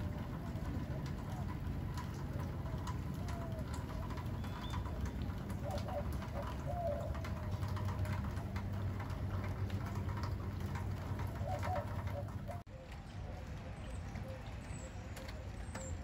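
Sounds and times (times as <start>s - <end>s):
dove cooing: 0.0s - 12.8s
rain pattering on water: 0.0s - 16.0s.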